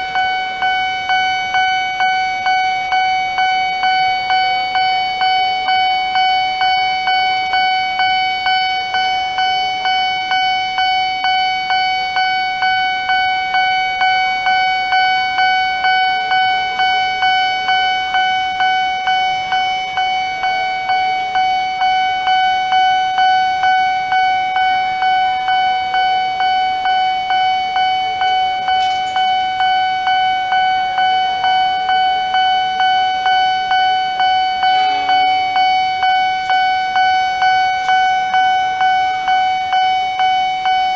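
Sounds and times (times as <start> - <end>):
railway crossing alarm dinging: 0.0 - 40.9.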